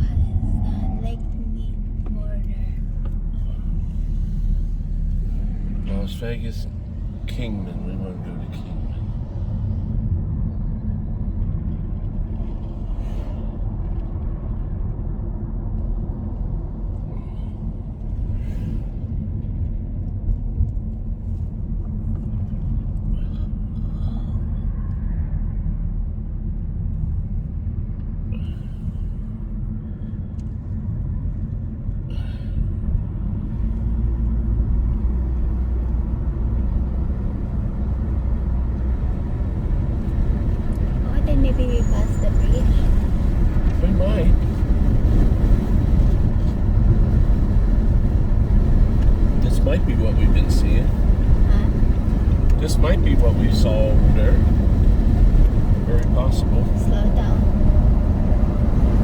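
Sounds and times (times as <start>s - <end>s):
road and engine rumble in car: 0.0s - 59.0s.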